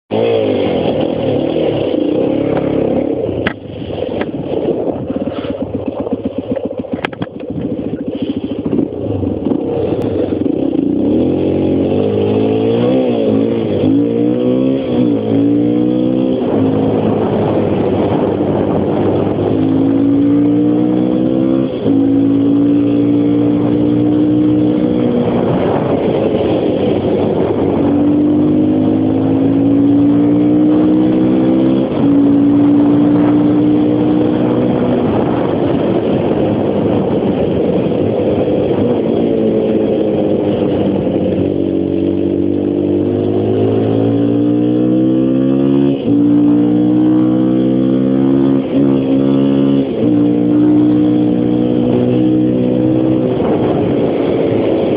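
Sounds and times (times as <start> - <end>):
motorcycle engine revving: 0.1 - 54.9.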